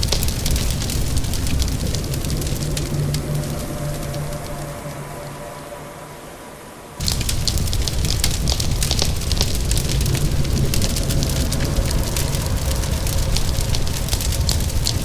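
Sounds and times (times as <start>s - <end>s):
wood fire crackling: 0.0s - 5.6s, 7.0s - 15.0s
soft rain hiss: 0.0s - 15.0s.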